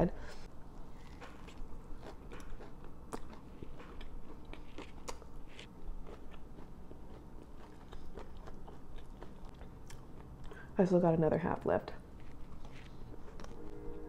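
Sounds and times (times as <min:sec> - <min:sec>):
person chewing food: 0:00.8 - 0:10.8, 0:12.0 - 0:13.8.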